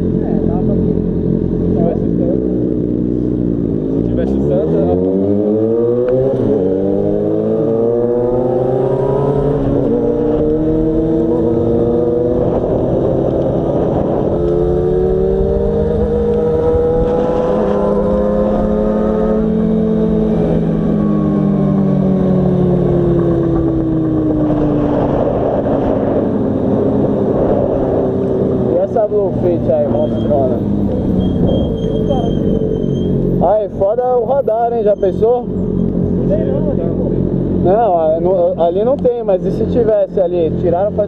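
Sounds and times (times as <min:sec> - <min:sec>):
low wind rush: 0:00.0 - 0:34.4
motorcycle engine accelerating: 0:00.0 - 0:41.0.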